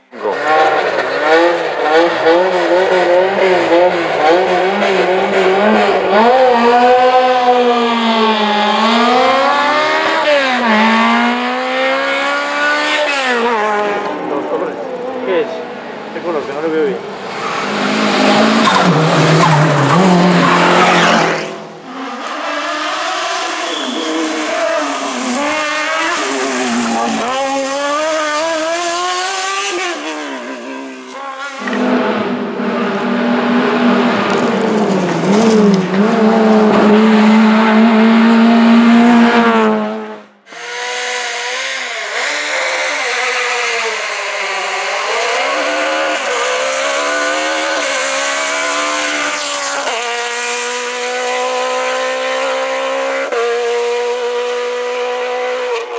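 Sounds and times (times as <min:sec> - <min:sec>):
race car engines revving: 0:00.0 - 0:55.9.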